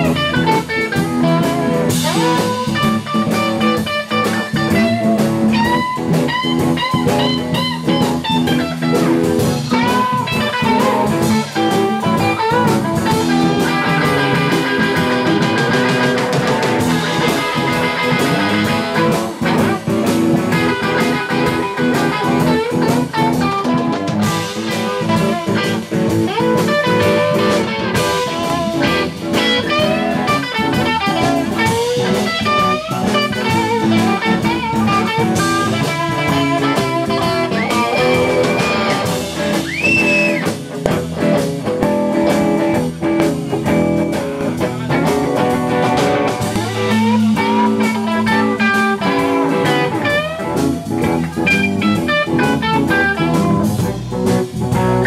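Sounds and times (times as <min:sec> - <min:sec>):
blues band playing: 0:00.0 - 0:55.0
lead guitar bending notes: 0:00.0 - 0:55.0.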